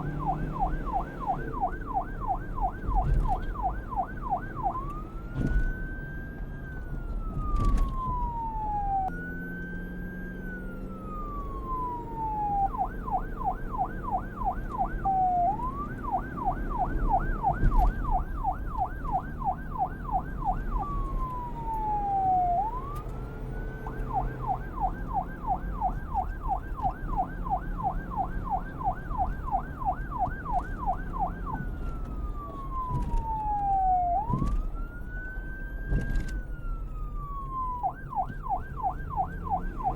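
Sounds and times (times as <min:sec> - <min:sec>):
police siren wail and yelp: 0:00.0 - 0:39.9.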